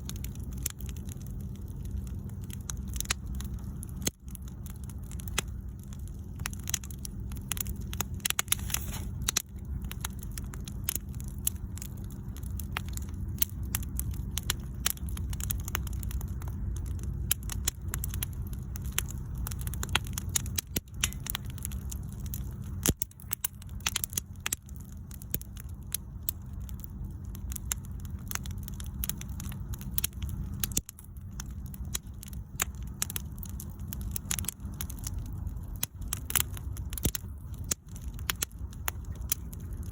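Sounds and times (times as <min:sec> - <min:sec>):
burning wood crackling: 0:00.0 - 0:39.9
flames rumbling: 0:00.0 - 0:39.9.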